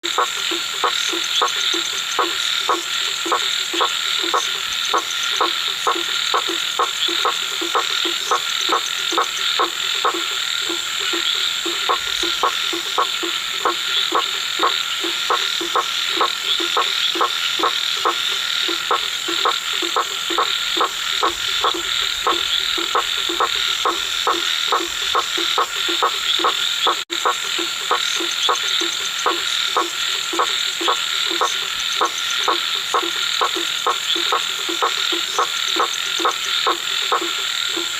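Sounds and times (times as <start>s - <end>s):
frog croaking: 0.0s - 37.9s.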